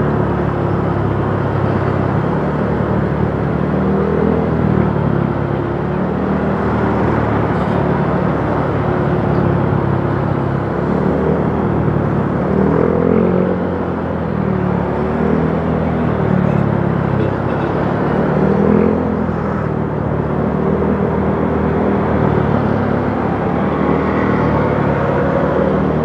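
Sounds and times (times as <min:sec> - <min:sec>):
road and traffic noise: 0:00.0 - 0:26.0.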